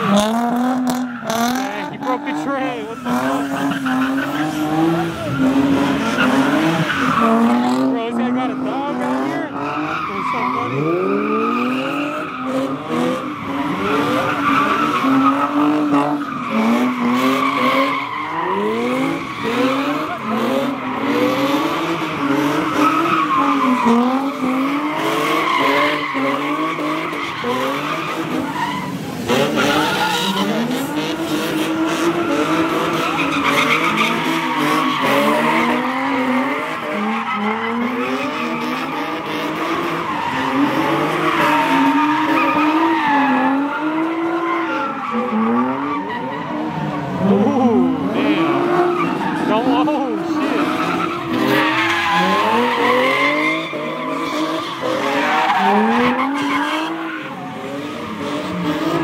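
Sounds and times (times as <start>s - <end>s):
car engines revving high: 0.0s - 59.0s
tires screeching: 0.0s - 59.0s.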